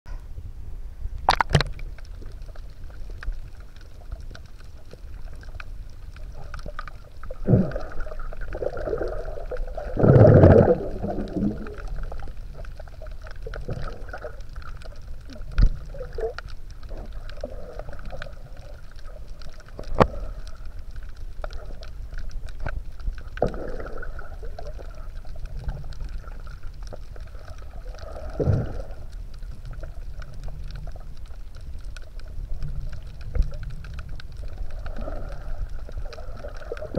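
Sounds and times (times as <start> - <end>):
underwater rumble of moving water: 0.1 - 36.9
water gurgling and bubbling: 5.0 - 22.2, 23.2 - 31.4, 32.1 - 36.9.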